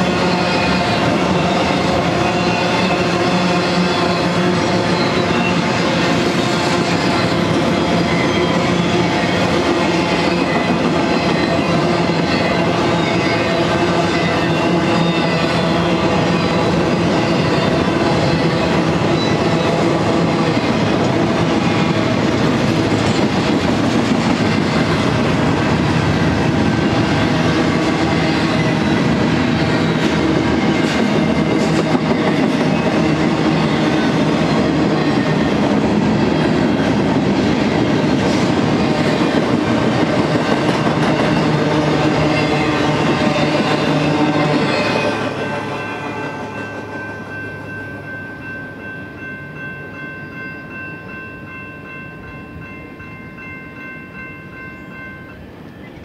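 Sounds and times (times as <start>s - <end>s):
steel train wheels on rails: 0.0s - 56.0s.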